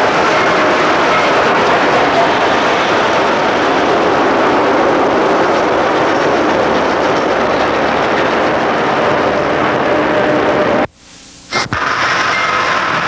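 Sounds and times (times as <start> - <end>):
steam train passing at speed: 0.0 - 10.9, 11.7 - 13.0.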